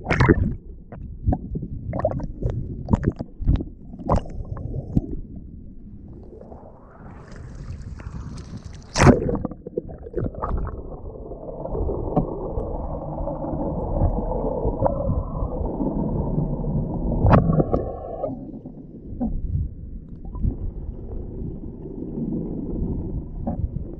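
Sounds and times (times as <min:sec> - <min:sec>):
underwater churning and gurgling: 0:00.0 - 0:23.9.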